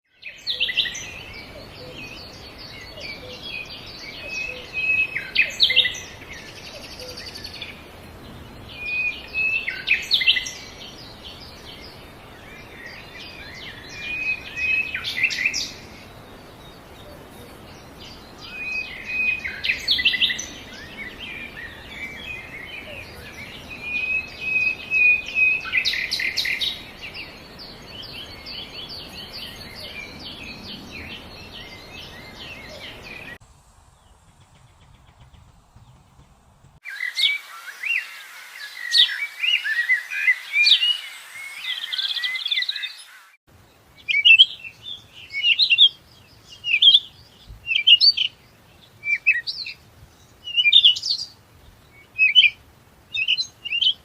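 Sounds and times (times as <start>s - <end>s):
faint bird chirping: 0.1s - 54.0s.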